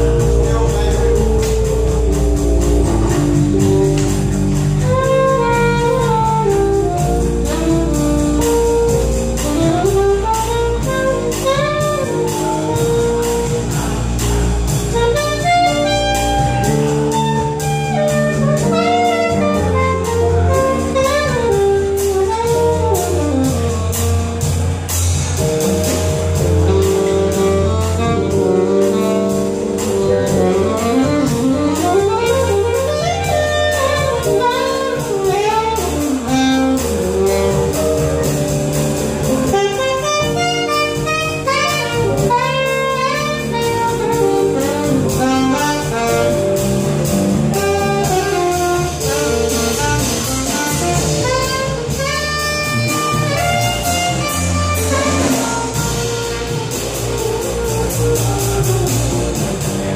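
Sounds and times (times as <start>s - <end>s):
bass: 0.0s - 59.9s
drums cymbal pulse: 0.0s - 59.9s
horn playing quick runs: 0.0s - 59.9s
keyboard chords: 0.0s - 59.9s.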